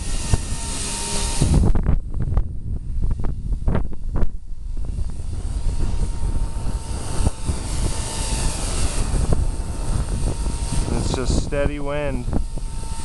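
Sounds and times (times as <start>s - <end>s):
rc helicopter motor whine: 0.0s - 13.0s
wind buffeting microphone: 0.0s - 13.0s.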